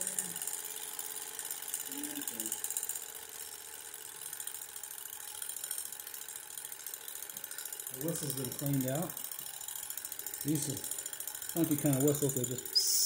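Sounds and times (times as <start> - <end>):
model steam engine ticking clatter: 0.0 - 13.0.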